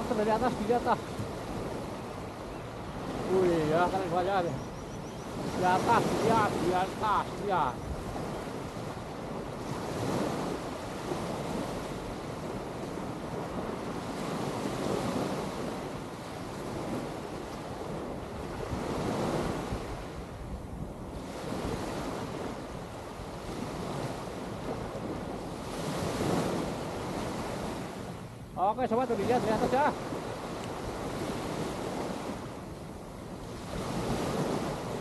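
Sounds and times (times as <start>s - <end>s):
sea waves washing in: 0.0s - 35.0s
wind on microphone: 0.0s - 35.0s.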